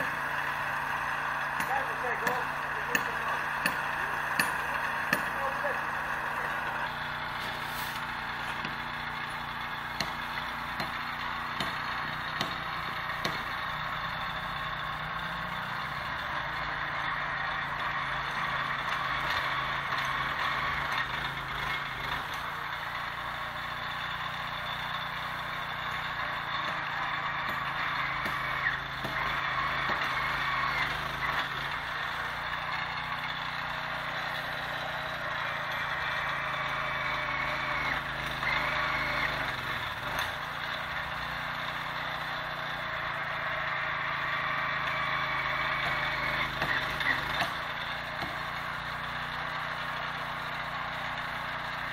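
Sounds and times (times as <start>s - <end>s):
small engine running steadily: 0.0s - 51.9s.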